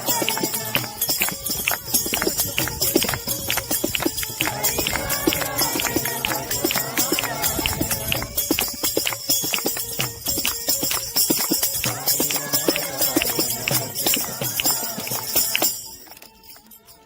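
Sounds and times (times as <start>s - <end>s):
fast percussive strikes: 0.0s - 16.1s
devotional music: 0.0s - 17.0s.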